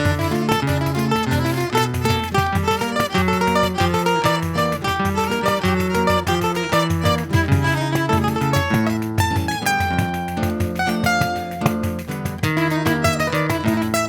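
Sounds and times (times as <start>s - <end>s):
guitar lead melody: 0.0s - 14.0s.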